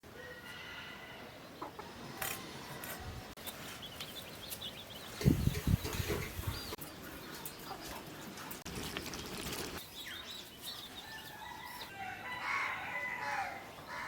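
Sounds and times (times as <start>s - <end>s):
birds chirping and calling: 0.2s - 14.0s.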